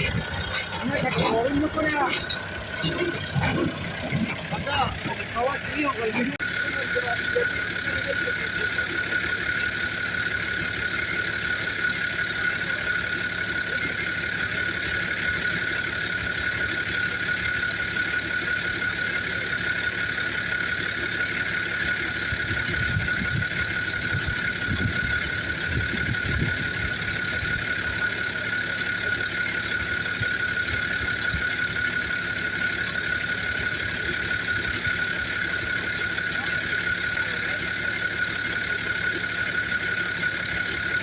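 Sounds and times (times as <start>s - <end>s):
engine running with whine: 0.0s - 41.0s.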